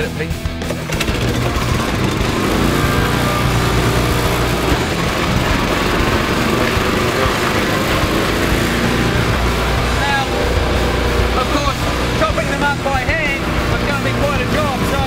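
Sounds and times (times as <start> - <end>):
small petrol engine running: 0.6 - 15.0
wood chipper shredding fish: 0.6 - 15.0.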